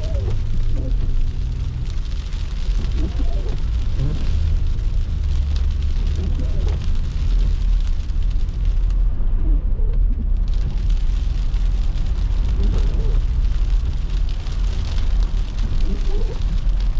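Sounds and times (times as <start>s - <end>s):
road noise hiss: 0.0s - 9.8s, 10.4s - 16.9s
car engine and tyres rumbling: 0.0s - 16.9s.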